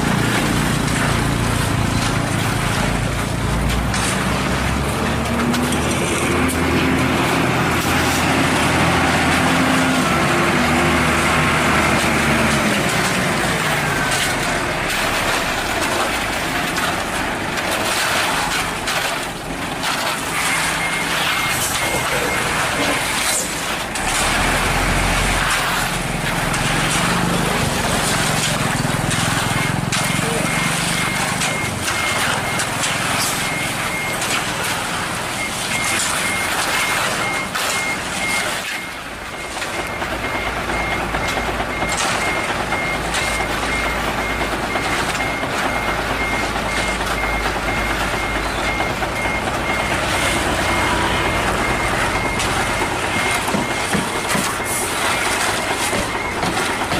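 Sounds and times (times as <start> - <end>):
diesel truck engine rumbling: 0.0 - 56.9
knocks and clanks of site work: 0.0 - 56.9
reversing alarm beeping: 5.5 - 16.9, 18.0 - 56.9.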